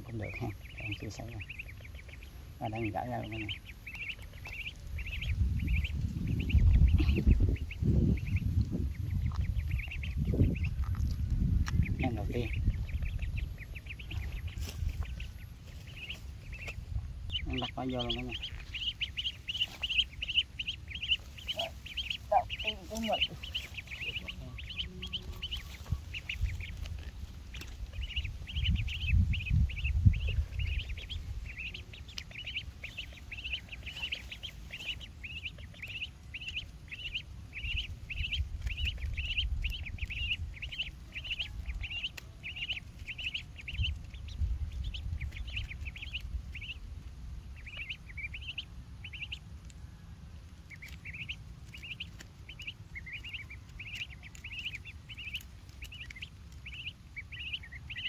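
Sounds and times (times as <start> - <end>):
duckling peeping: 0.0 - 58.0
low rumble: 0.0 - 58.0.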